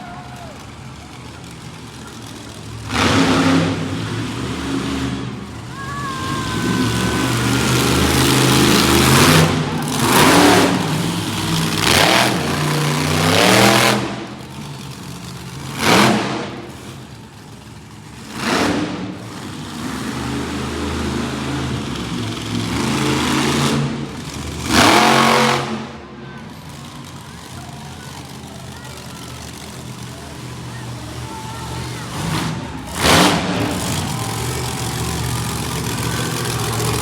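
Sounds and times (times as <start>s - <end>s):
truck engine revving: 0.6s - 37.0s.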